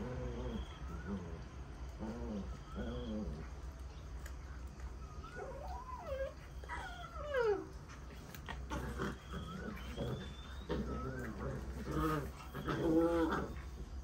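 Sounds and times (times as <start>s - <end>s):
puppies whining: 0.0s - 14.0s
steady low hum: 0.0s - 14.0s.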